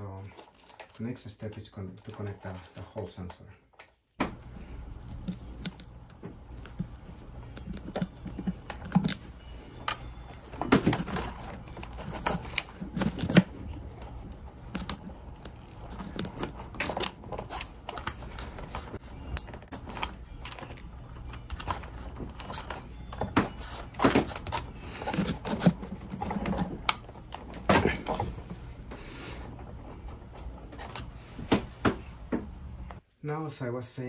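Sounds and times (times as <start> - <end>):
wire rustling: 4.3 - 32.7.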